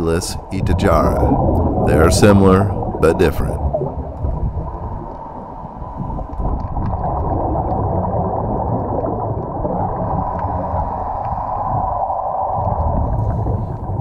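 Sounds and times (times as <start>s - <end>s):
muffled underwater rush: 0.0s - 14.0s.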